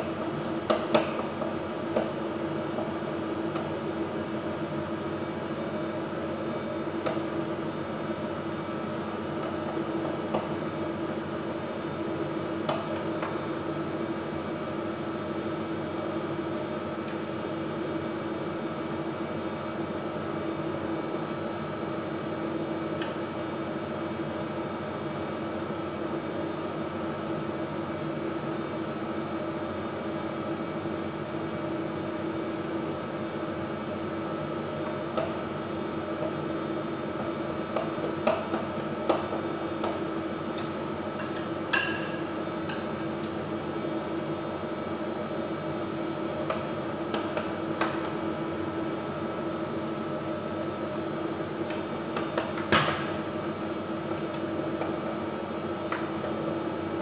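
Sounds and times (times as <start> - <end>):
appliance fan whirring hum: 0.0 - 57.0.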